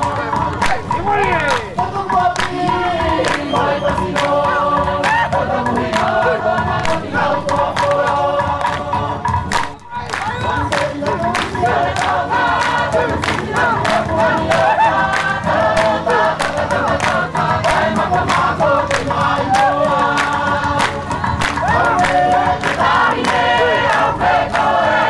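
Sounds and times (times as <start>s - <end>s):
chorus singing: 0.0s - 25.0s
sharp percussive strikes: 0.0s - 25.0s.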